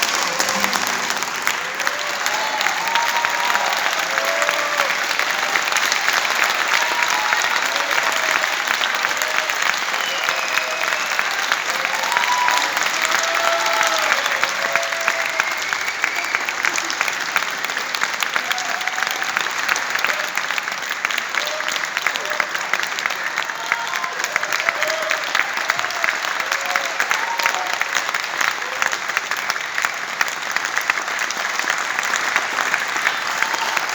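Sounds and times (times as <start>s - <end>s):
audience applauding: 0.0s - 33.9s.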